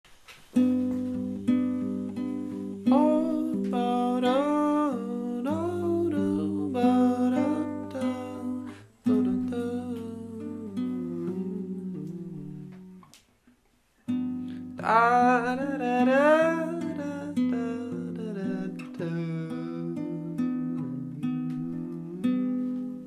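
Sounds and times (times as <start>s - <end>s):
acoustic guitar strumming: 0.4s - 13.2s, 14.0s - 23.0s.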